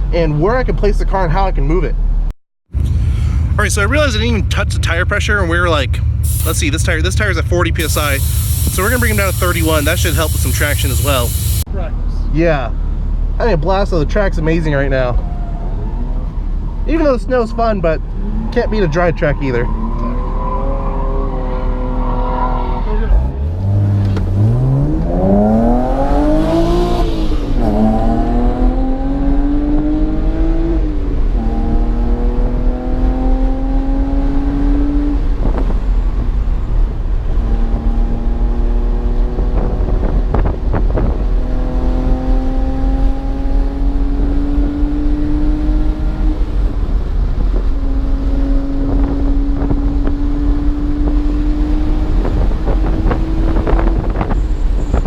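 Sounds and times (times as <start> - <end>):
wind and road rumble: 0.0 - 55.0
car engine revving: 2.7 - 11.7, 18.0 - 35.6, 37.0 - 55.0.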